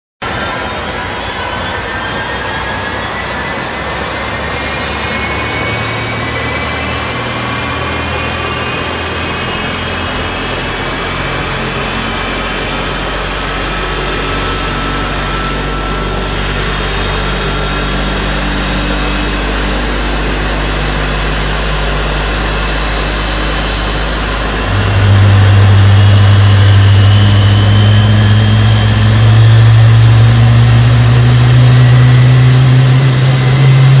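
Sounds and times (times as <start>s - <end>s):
jet engines running: 0.2s - 34.0s.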